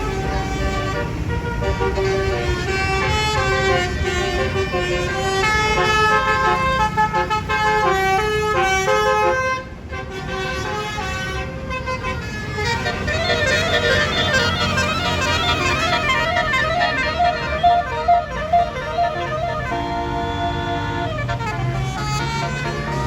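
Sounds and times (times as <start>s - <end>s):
bus engine rumble: 0.0s - 23.0s
multi-note bus horn melody: 0.0s - 23.0s.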